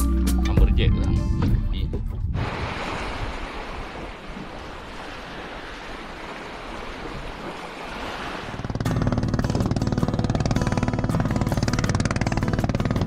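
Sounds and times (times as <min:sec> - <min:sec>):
wind: 0:00.2 - 0:13.0
sea waves: 0:02.3 - 0:13.0.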